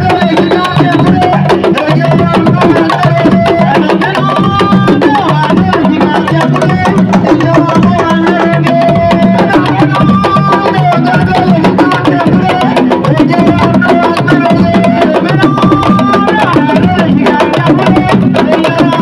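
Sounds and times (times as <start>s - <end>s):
fast hand drumming: 0.0s - 19.0s.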